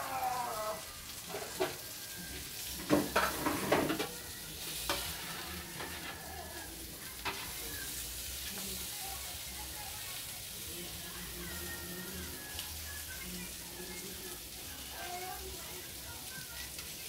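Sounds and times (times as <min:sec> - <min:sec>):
food sizzling in frying pans: 0:00.0 - 0:17.0.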